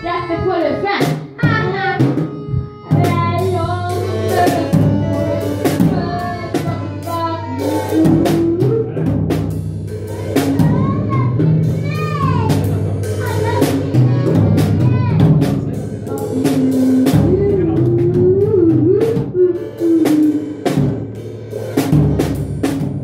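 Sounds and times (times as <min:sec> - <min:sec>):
music with singing: 0:00.0 - 0:09.3, 0:10.0 - 0:21.0
drum kit hits: 0:00.9 - 0:23.0.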